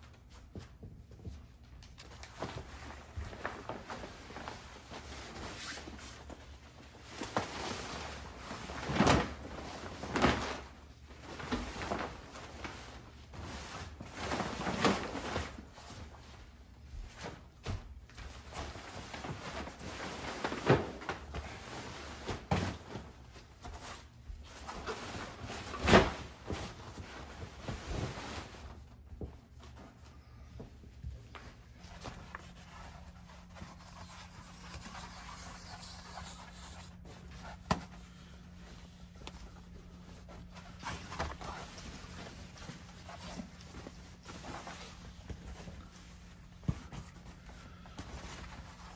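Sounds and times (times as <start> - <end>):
fabric rustling and flapping: 0.0 - 48.9.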